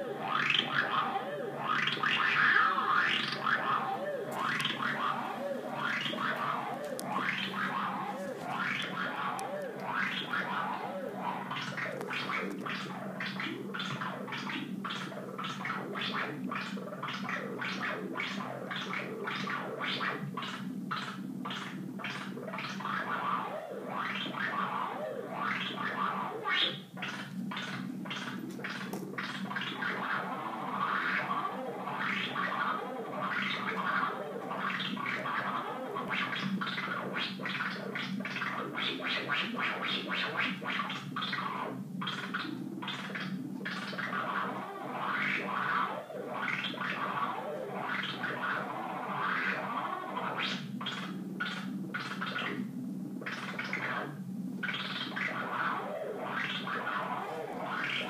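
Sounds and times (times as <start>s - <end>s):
synthesizer filter sweeps: 0.0s - 58.0s.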